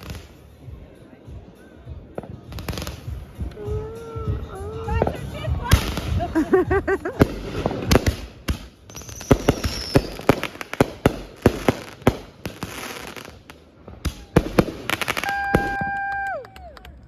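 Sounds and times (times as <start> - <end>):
fireworks bangs and pops: 0.0 - 1.0, 1.9 - 17.0.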